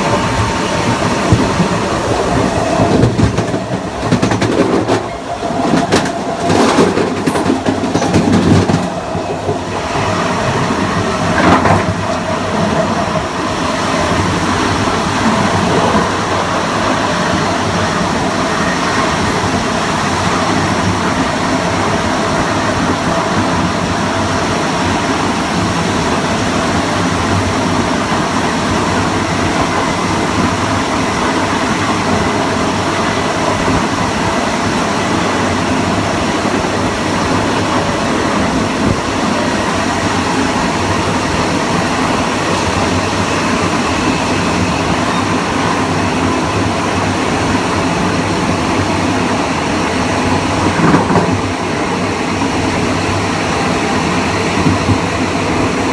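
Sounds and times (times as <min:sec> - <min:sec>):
wheel and rail rumble: 0:00.0 - 0:55.9.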